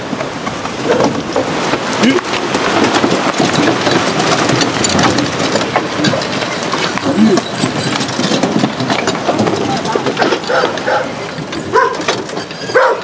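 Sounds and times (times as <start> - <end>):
cart boards creaking: 0.0 - 13.0
wooden cart rattling on dirt: 0.0 - 13.0.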